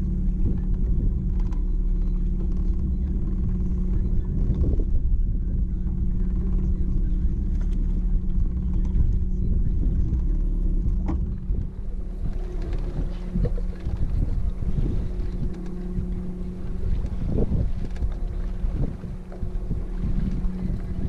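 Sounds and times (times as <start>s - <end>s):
boat motor running: 0.0s - 21.0s
water splashing against hull: 0.0s - 21.0s
wind on microphone: 0.0s - 21.0s.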